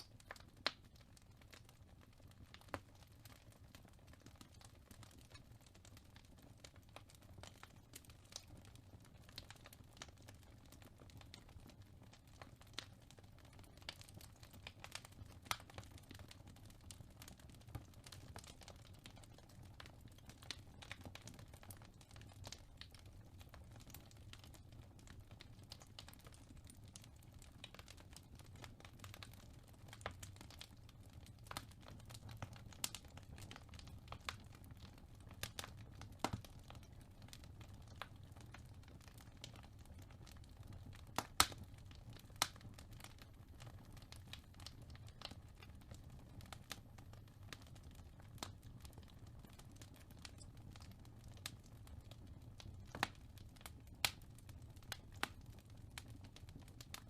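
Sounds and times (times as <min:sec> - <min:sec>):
fireplace crackling: 0:00.0 - 0:57.0.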